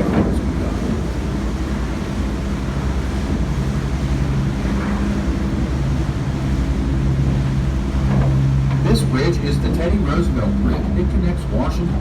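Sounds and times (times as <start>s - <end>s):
boat engine droning: 0.0s - 12.0s
wind and water rushing: 0.0s - 12.0s.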